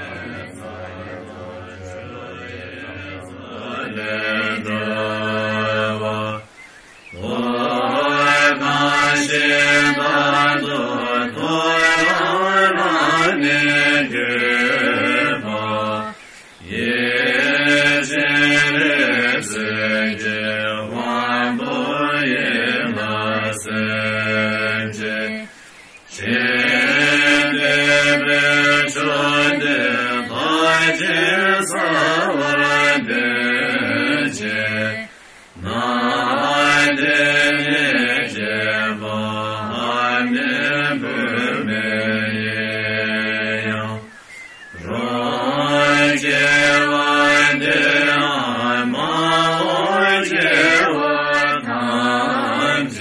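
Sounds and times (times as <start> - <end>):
low voice chanting: 0.0 - 53.0.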